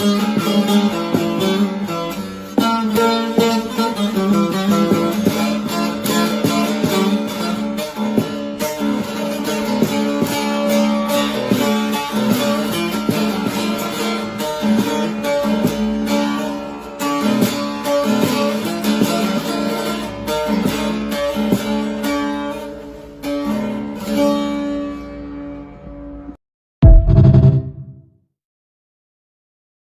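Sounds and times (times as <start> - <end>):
picked lute melody over drone: 0.0 - 26.3.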